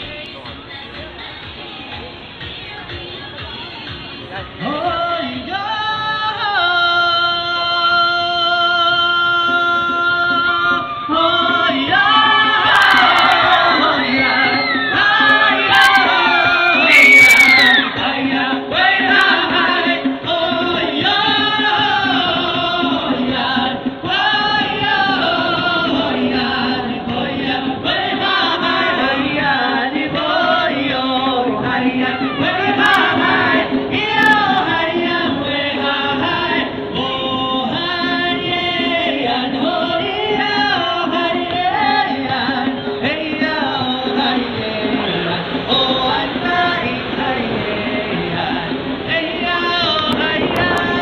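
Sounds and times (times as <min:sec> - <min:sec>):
chorus singing with music: 0:00.0 - 0:51.0.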